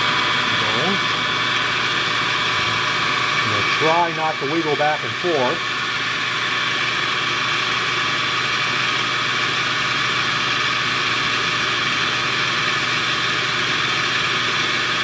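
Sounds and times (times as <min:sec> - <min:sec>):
file scoring spinning glass tube: 0:00.0 - 0:15.0
metal lathe whining: 0:00.0 - 0:15.0.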